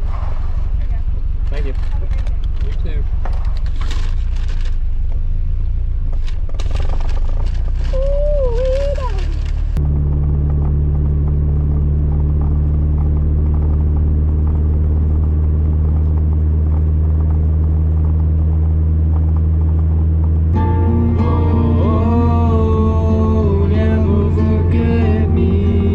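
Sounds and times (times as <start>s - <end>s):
car driving drone: 0.0s - 25.9s.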